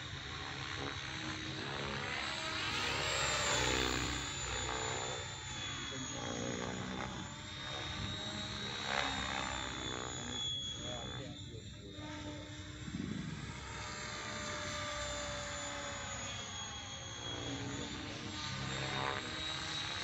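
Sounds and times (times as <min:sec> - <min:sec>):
rc helicopter motor whine: 0:00.0 - 0:20.0
rotor blades whirring: 0:00.0 - 0:20.0.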